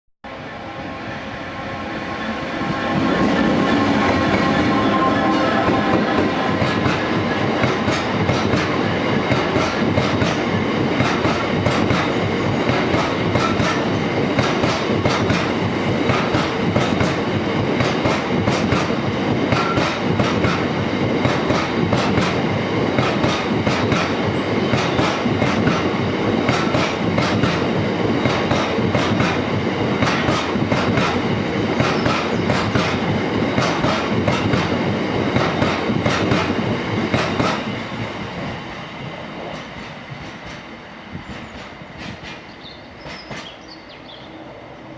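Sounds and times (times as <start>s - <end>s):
freight train passing at speed: 0.2s - 44.9s.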